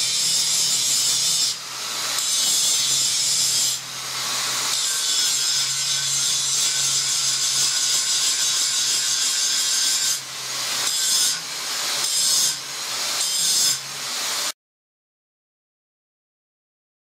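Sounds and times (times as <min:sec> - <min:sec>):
angle grinder grinding metal: 0:00.0 - 0:14.5.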